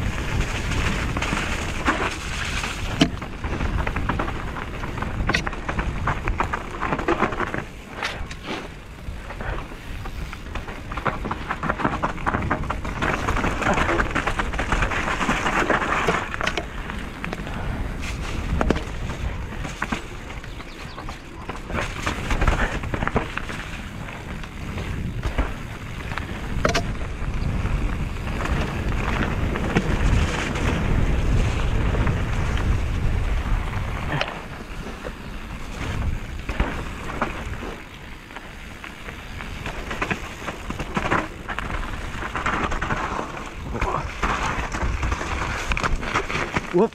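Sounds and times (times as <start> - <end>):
bike clacks and rattles: 0.0 - 46.9
tyre noise on dirt: 0.0 - 46.9
wind rumbling on microphone: 0.0 - 46.9.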